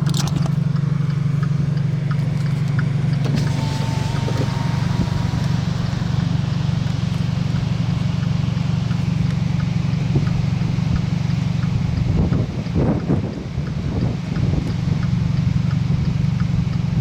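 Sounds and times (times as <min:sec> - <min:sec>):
car engine rumble from inside cabin: 0:00.0 - 0:17.0.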